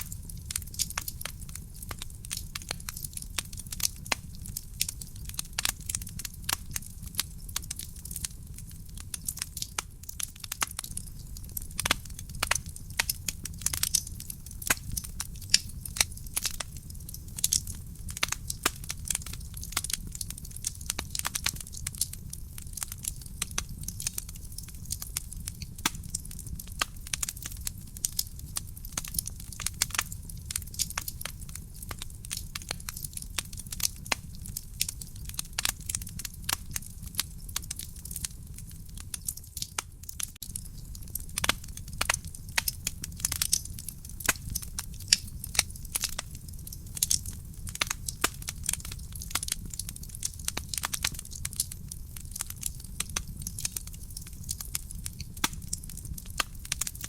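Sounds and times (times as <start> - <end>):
burning logs crackling and popping: 0.0 - 57.0
low rumble of flames: 0.0 - 57.0.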